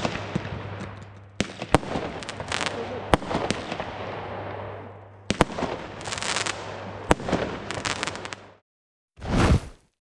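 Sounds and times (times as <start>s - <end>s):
firework crackling: 0.0s - 8.6s.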